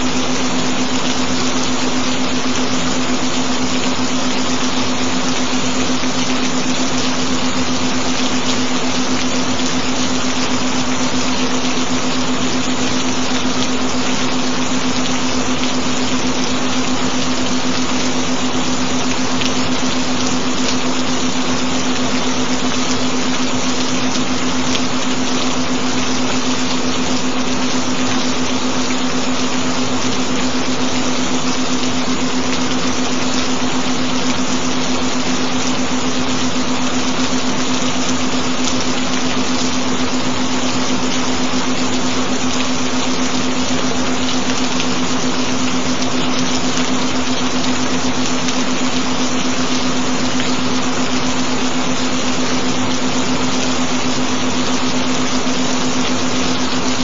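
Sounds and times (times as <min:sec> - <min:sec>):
continuous low tone: 0:00.0 - 0:57.0
rain: 0:00.0 - 0:57.0.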